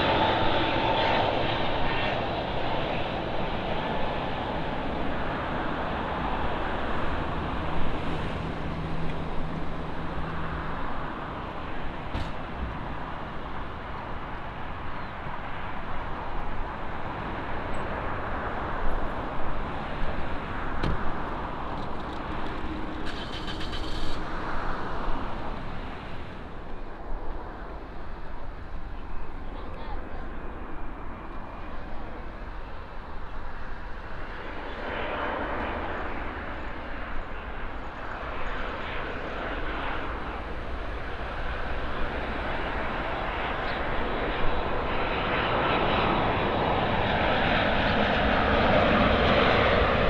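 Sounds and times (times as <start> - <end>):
distant jet airliner engines roaring: 0.0 - 50.0.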